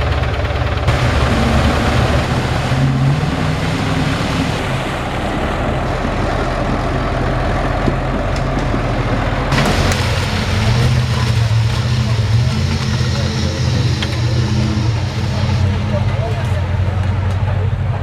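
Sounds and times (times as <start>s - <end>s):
truck engine revving hard: 0.0s - 18.0s.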